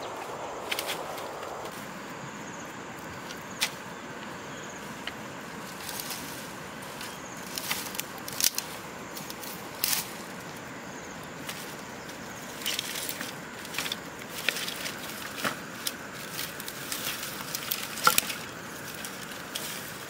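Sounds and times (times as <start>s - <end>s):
dry branches snapping: 0.1s - 1.9s, 3.2s - 4.3s, 5.0s - 10.6s, 11.3s - 20.0s.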